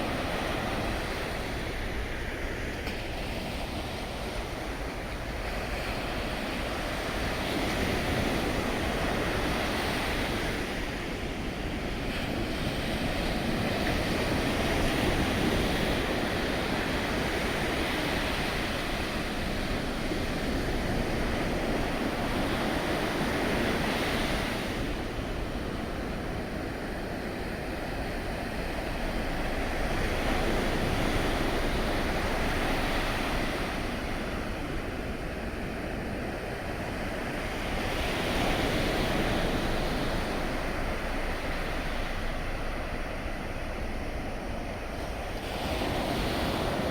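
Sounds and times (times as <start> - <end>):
sea waves rushing: 0.0 - 46.9
wind on microphone: 0.0 - 46.9.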